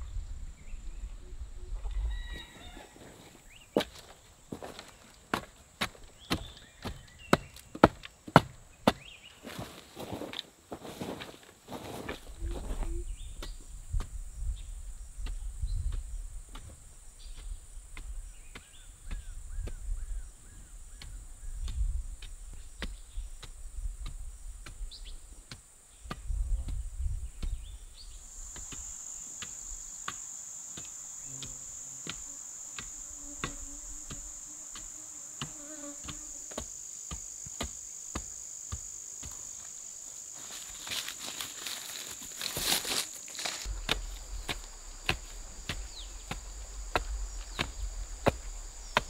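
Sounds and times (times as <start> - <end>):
high buzz of insects: 0.0 - 49.0.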